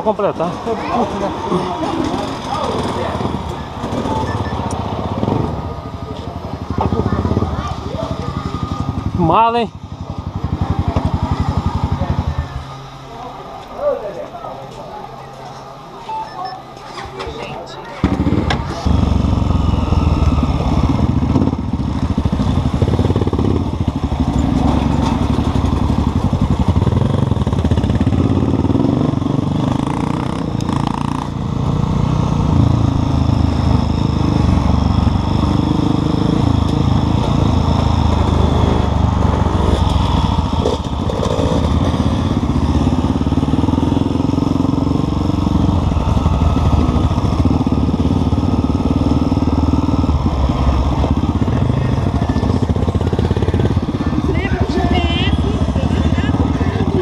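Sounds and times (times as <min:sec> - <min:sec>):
dirt bike engine revving: 0:00.0 - 0:13.2, 0:18.0 - 0:57.0.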